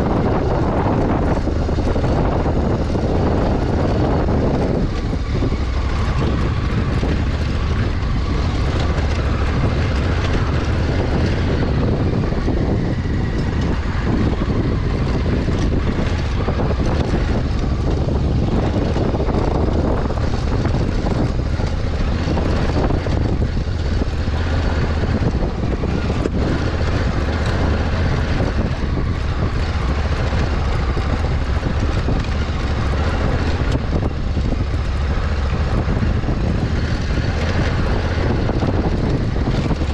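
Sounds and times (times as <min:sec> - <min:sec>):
motorcycle engine running: 0:00.0 - 0:39.9
wind rumbling on microphone: 0:00.0 - 0:39.9.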